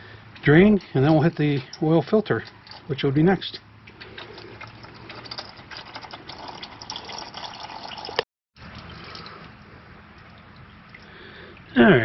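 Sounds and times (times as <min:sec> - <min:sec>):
oil draining in a stream: 0:00.0 - 0:11.8.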